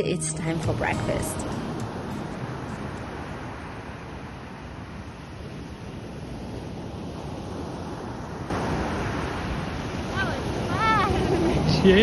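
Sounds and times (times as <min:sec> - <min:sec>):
ocean surf washing in: 0:00.4 - 0:12.0.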